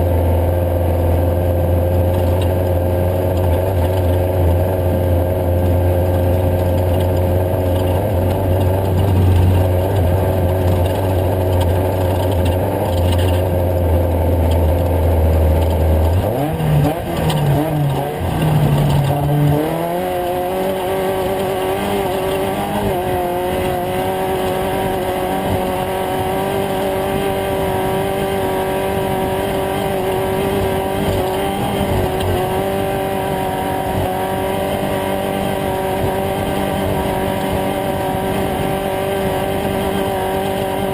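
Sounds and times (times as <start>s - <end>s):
race vehicle engine running: 0.0s - 40.9s.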